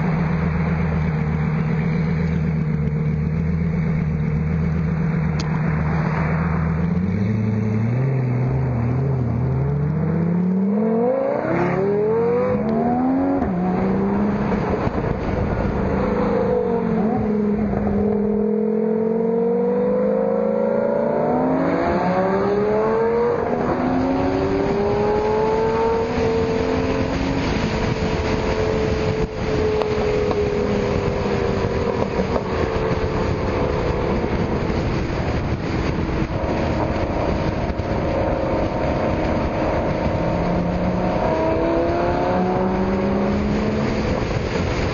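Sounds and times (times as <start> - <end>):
sports cars accelerating by: 5.1 - 44.9.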